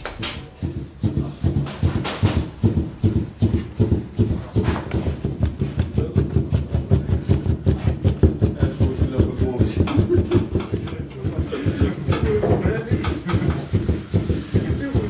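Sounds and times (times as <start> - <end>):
knife chopping meat on board: 0.2 - 15.0.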